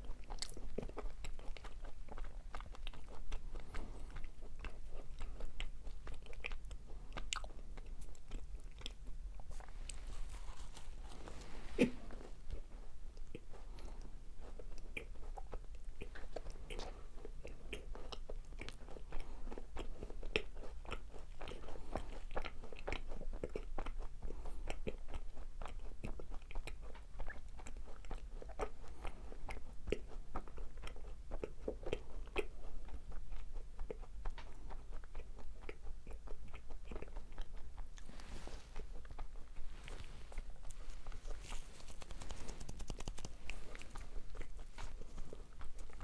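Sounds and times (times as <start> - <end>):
chewing crunchy macarons: 0.0 - 46.0.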